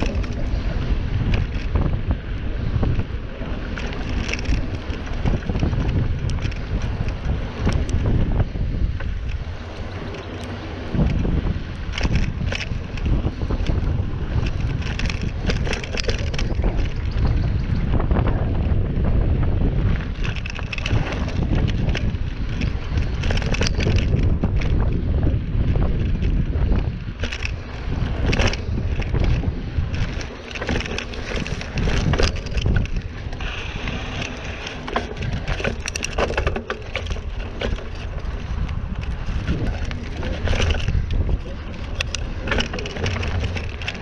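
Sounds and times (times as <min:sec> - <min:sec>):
bike rattling over bumps: 0:00.0 - 0:44.0
wind on microphone: 0:00.0 - 0:44.0.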